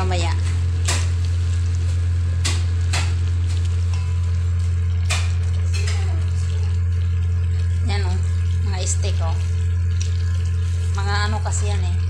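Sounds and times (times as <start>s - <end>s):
low steady hum: 0.0s - 12.0s
wooden spoon stirring soup: 0.8s - 11.8s.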